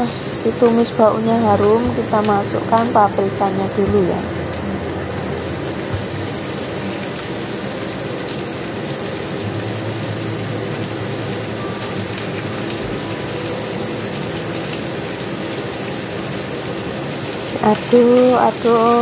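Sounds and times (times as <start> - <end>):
peppers sizzling in hot oil: 0.0 - 19.0.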